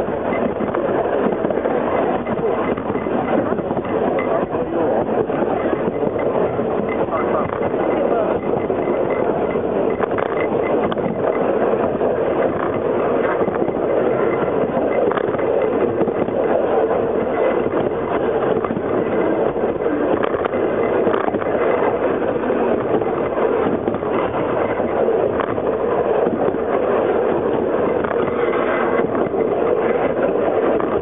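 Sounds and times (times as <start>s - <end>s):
train carriages rumbling and rattling: 0.0s - 31.0s.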